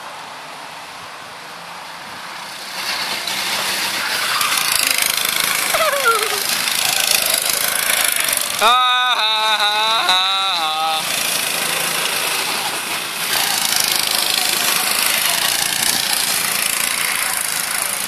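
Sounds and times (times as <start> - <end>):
go-kart engines running: 1.2 - 18.0.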